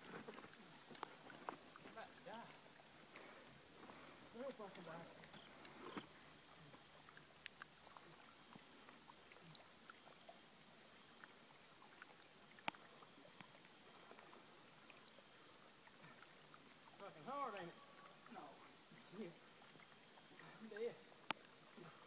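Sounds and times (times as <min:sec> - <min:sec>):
small ticks: 0:00.2 - 0:22.0.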